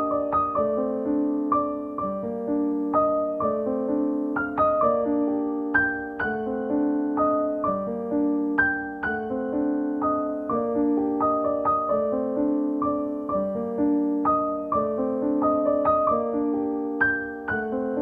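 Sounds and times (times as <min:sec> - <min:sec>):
gentle solo piano arpeggios: 0:00.0 - 0:18.0.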